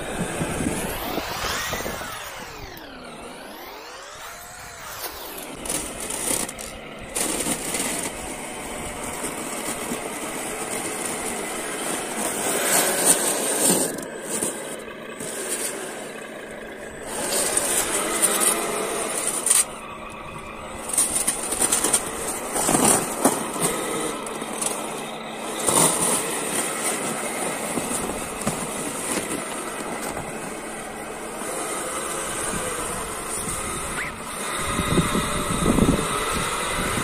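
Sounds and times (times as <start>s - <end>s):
model truck motor whining: 0.0s - 37.0s
plow blade scraping snow: 0.0s - 37.0s.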